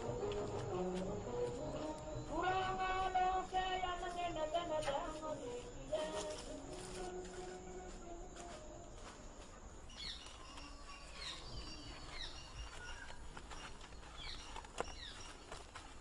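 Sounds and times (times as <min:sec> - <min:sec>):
steady low hiss: 0:00.0 - 0:14.1.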